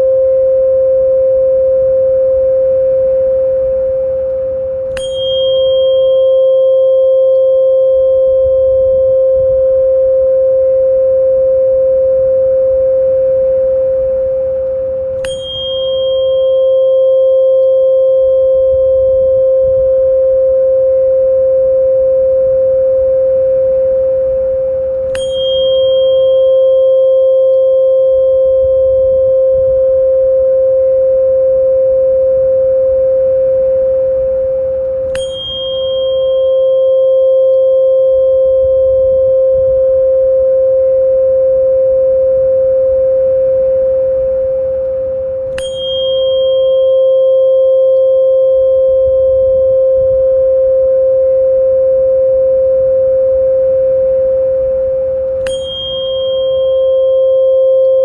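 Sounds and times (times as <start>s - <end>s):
tuning fork ringing: 0.0s - 58.0s.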